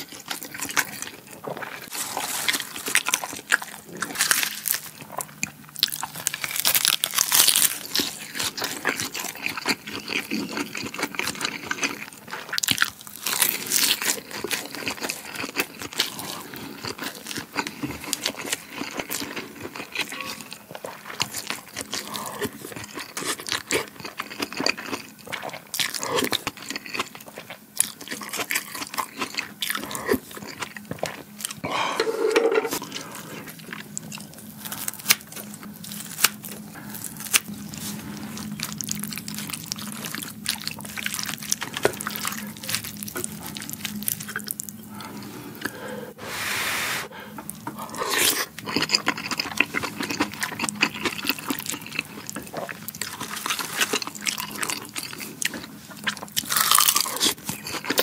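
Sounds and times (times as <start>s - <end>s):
chewing and crunching: 0.0s - 46.0s, 47.3s - 58.0s.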